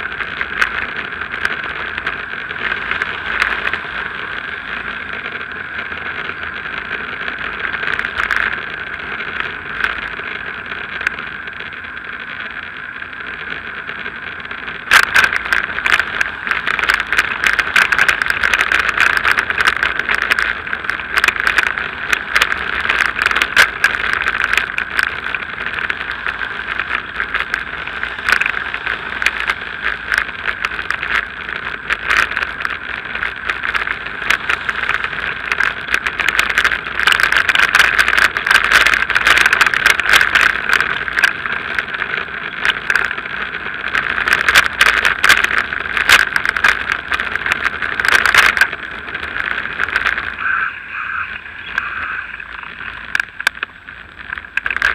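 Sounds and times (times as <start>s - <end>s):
bike and camera mount rattling: 0.0s - 50.5s, 51.2s - 54.9s
bicycle tyre and wind hiss: 0.0s - 54.8s.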